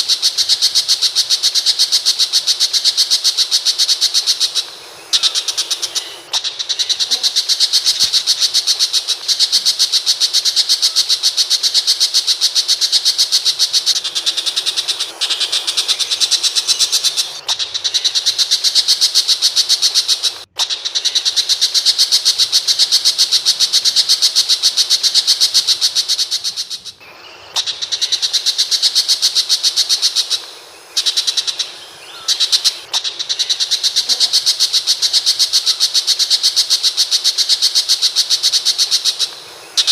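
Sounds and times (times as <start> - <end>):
bird calling sharp notes: 0.0 - 39.9.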